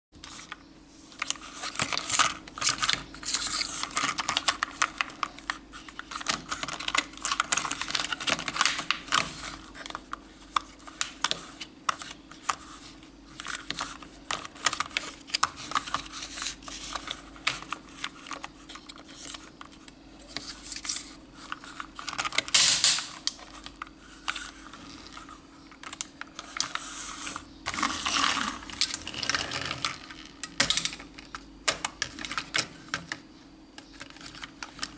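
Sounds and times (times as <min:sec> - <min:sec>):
faint steady hum: 0:00.2 - 0:34.9
plastic toys clicking and rattling: 0:01.2 - 0:12.7, 0:13.3 - 0:25.2, 0:25.8 - 0:33.2.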